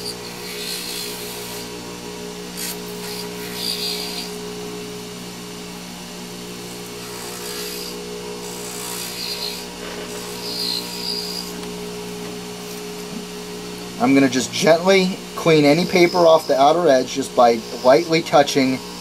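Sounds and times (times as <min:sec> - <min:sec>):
blade scraping: 0:00.0 - 0:01.7, 0:02.6 - 0:04.4, 0:06.8 - 0:19.0
lathe motor humming: 0:00.0 - 0:19.0.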